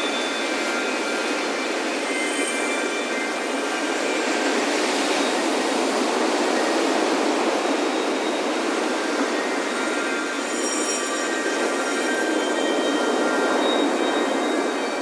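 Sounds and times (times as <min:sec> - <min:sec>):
wind chimes ringing faintly: 0:00.0 - 0:15.0.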